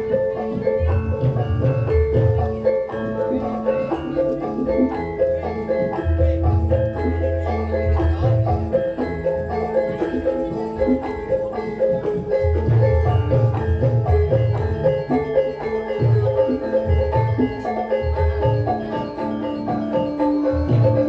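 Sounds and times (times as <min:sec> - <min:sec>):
mallet percussion music: 0:00.0 - 0:21.0.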